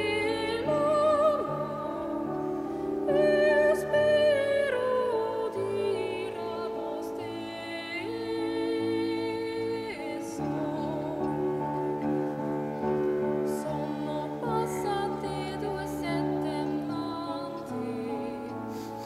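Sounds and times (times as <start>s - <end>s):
woman singing: 0.0s - 12.1s, 13.2s - 19.0s
soft instrumental accompaniment: 0.0s - 19.0s.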